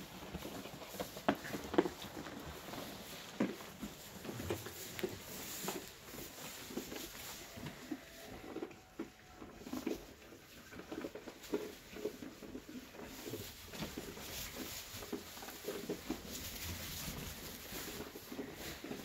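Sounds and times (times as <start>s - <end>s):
straw rustling: 0.0s - 8.7s, 9.5s - 19.0s.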